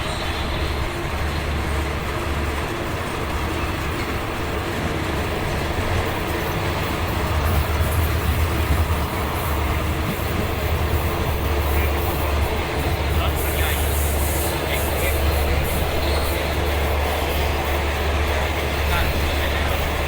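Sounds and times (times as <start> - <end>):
train clatter: 0.0 - 20.0
train rumbling on rails: 0.0 - 20.0.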